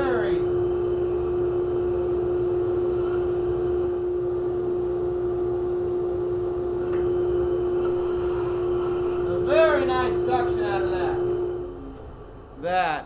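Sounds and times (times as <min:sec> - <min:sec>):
vacuum motor whining: 0:00.0 - 0:12.5.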